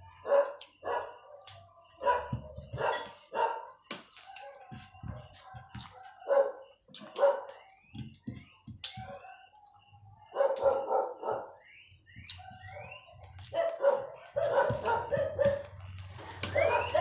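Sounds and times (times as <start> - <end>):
soft low eating noises: 0.0 - 17.0
dog barking: 0.2 - 7.6, 8.8 - 9.6, 10.2 - 15.8, 16.5 - 17.0.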